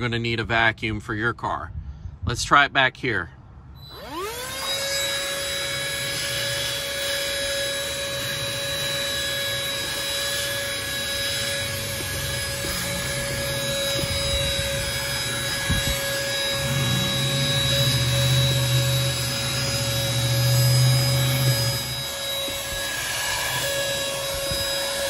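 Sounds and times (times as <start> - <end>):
handheld vacuum whining: 3.8 - 25.0.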